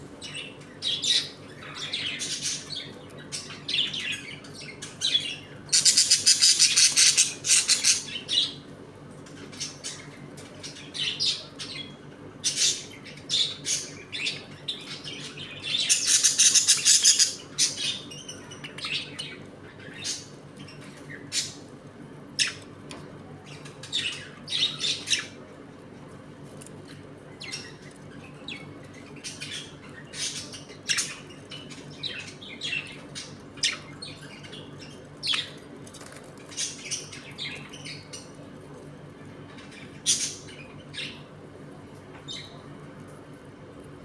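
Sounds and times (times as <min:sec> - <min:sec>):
faint steady hum: 0:00.0 - 0:44.0
budgerigars chirping and squawking: 0:00.2 - 0:08.6, 0:09.4 - 0:21.6, 0:22.3 - 0:22.7, 0:23.5 - 0:25.4, 0:26.8 - 0:35.6, 0:36.5 - 0:38.4, 0:39.6 - 0:41.3.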